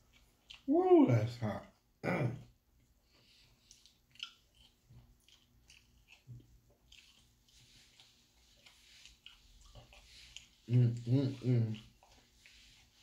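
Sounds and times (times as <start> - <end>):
faint mouth sounds: 2.0 - 13.0.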